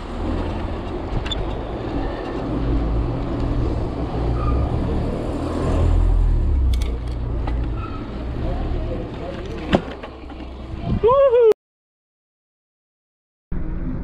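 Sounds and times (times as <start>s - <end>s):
bike tyres on asphalt: 0.0s - 11.4s.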